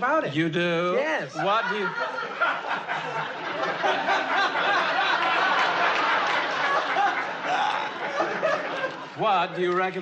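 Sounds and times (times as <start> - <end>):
studio audience laughing: 1.4 - 10.0.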